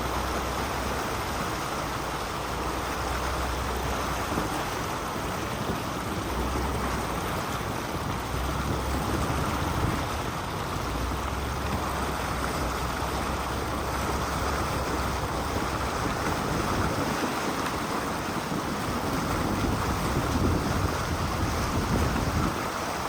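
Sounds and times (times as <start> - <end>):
vehicle driving off-road: 0.0 - 23.0
wind buffeting microphone: 0.0 - 23.0.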